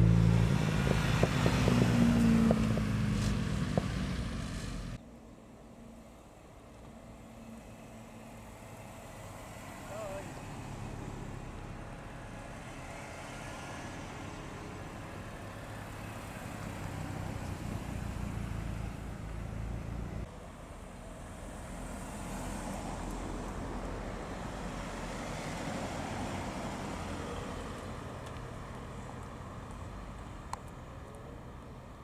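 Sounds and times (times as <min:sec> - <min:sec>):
cars driving slowly past: 0:00.0 - 0:32.0.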